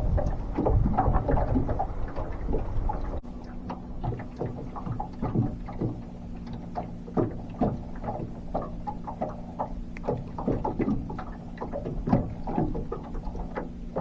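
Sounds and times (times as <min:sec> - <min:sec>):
steady low hum: 0:00.0 - 0:14.0
waves slapping against boat hull: 0:00.0 - 0:14.0.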